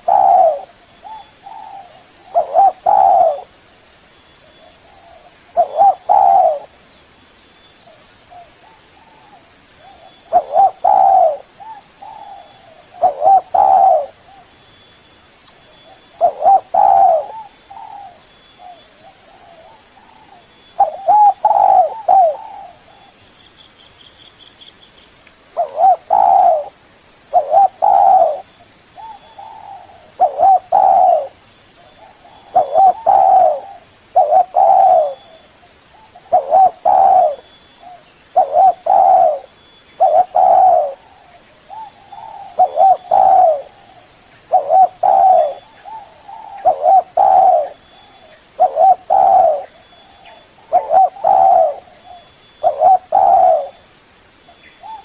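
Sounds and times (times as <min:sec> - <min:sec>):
dove cooing: 0:00.0 - 0:03.6, 0:04.4 - 0:06.8, 0:08.3 - 0:14.5, 0:15.8 - 0:23.2, 0:25.5 - 0:53.8, 0:54.8 - 0:55.0.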